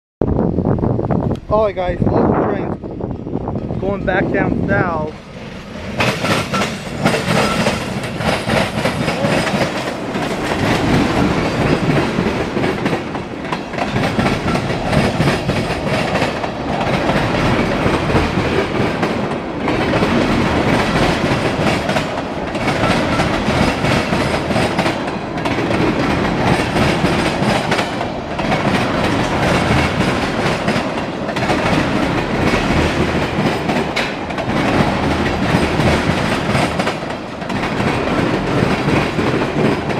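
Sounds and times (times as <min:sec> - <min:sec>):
train wheels rumbling on rails: 0:00.2 - 0:39.9.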